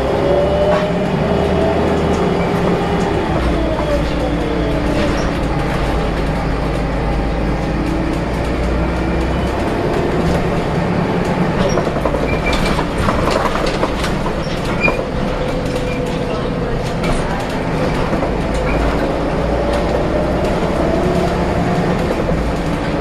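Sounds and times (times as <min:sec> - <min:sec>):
bus body rattling: 0:00.0 - 0:23.0
bus diesel engine running: 0:00.0 - 0:23.0.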